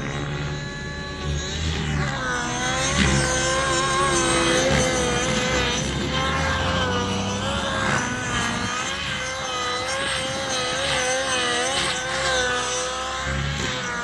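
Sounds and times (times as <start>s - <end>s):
model helicopter engine and rotor whine: 0.0s - 14.0s.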